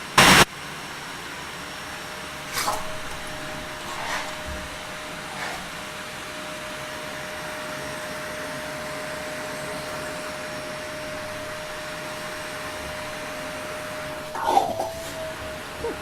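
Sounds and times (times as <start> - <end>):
vacuum cleaner running: 2.5 - 16.0.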